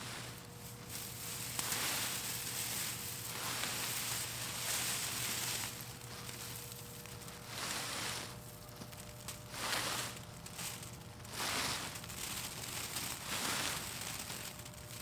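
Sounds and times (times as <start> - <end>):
dry plant stalks rustling: 0.0 - 15.0.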